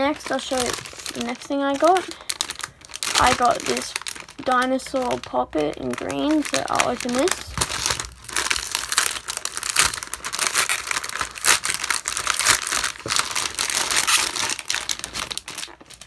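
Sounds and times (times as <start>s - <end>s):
crinkly packaging tearing: 0.0s - 16.0s.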